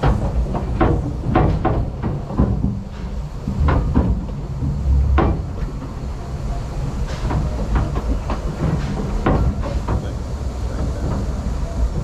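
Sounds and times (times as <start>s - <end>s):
railway carriage rumbling on rails: 0.0s - 12.0s
wheels knocking and clunking: 0.0s - 12.0s.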